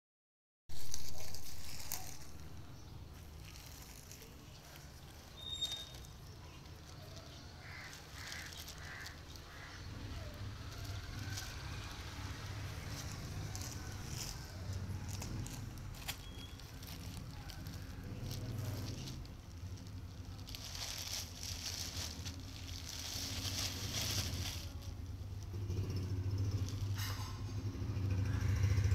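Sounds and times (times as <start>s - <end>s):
low outdoor rumble: 0.7s - 28.9s
plastic bag rustling: 0.7s - 28.9s
distant calls: 1.3s - 28.9s.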